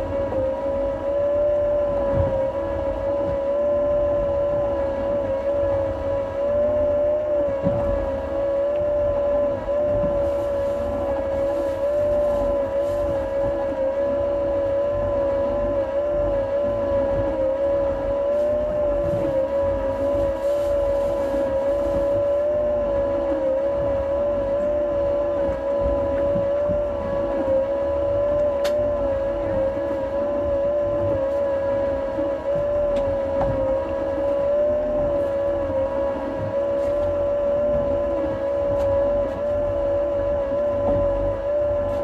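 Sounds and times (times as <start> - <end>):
engine droning with whine: 0.0 - 42.0.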